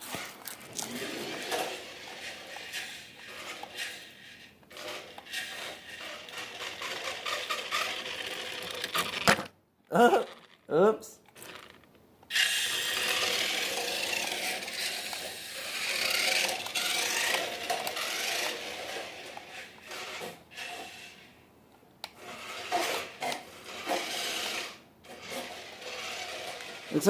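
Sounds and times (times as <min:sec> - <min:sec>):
toy car motor whirring: 0:00.0 - 0:09.5, 0:11.3 - 0:21.4, 0:22.0 - 0:27.0
wheels spinning and scraping: 0:00.0 - 0:09.5, 0:11.3 - 0:21.4, 0:22.0 - 0:27.0.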